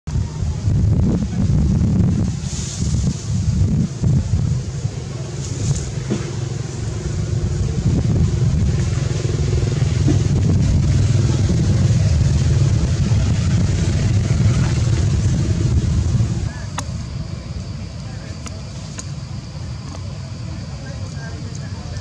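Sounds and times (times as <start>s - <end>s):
vehicle engine low rumble: 0.1s - 22.0s.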